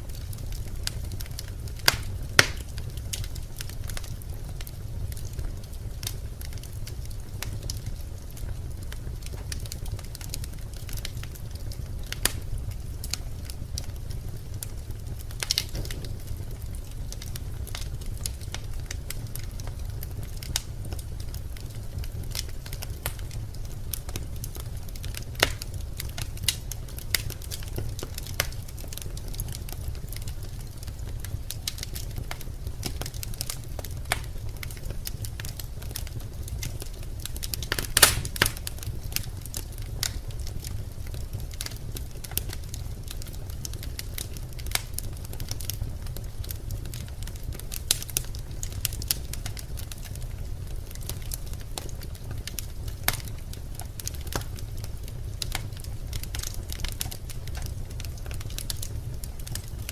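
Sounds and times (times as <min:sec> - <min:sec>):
fire crackling and popping: 0:00.0 - 0:59.9
low rumble of flames: 0:00.0 - 0:59.9.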